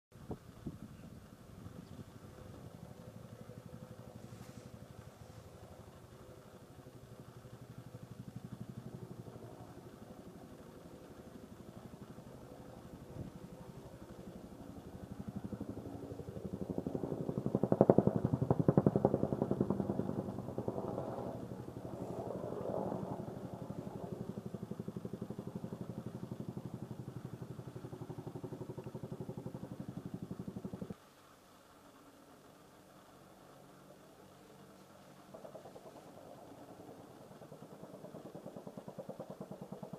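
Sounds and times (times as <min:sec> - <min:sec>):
helicopter flying by: 0:00.3 - 0:31.0, 0:31.9 - 0:39.9.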